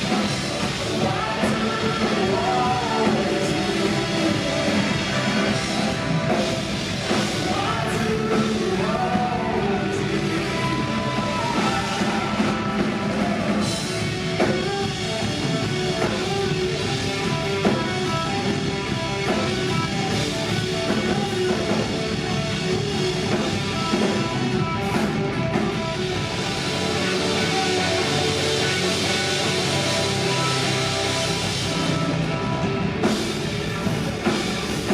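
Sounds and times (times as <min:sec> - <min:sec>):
drum kit: 0:00.0 - 0:34.9
electric guitar: 0:00.0 - 0:34.9
live rock band playing: 0:00.0 - 0:34.9.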